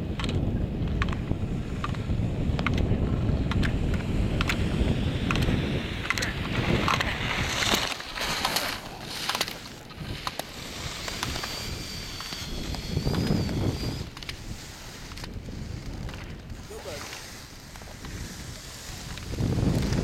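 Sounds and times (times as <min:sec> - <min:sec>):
wind on microphone: 0:00.0 - 0:20.0
sharp clicks: 0:00.1 - 0:18.2
skis scraping on snow: 0:03.2 - 0:20.0.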